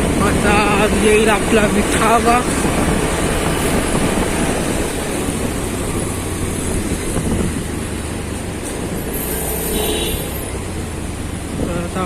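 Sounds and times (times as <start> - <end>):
motorcycle engine rumble: 0.0 - 12.0
wind noise on microphone: 0.0 - 12.0.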